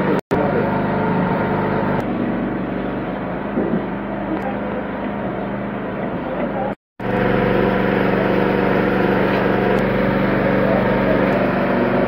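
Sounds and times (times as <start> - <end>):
vehicle engines and traffic drone: 0.0 - 12.0.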